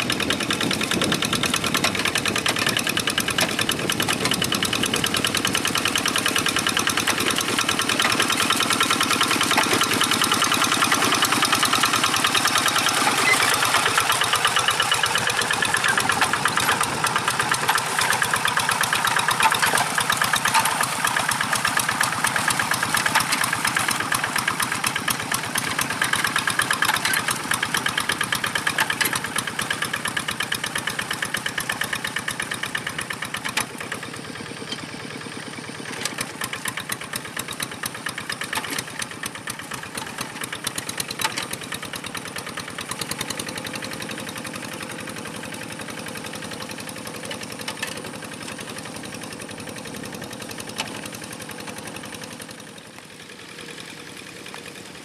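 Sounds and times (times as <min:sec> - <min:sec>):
diesel tractor engine chugging: 0:00.0 - 0:55.0.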